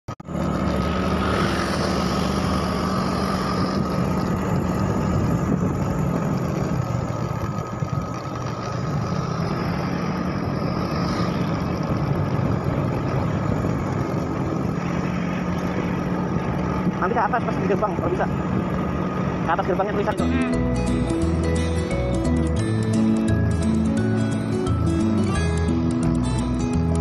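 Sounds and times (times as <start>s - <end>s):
wind and road noise: 0.1s - 27.0s
motor scooter engine running: 0.2s - 27.0s.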